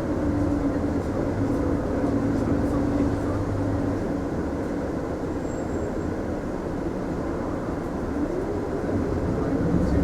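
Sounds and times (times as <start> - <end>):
bus road and engine noise: 0.0 - 10.0.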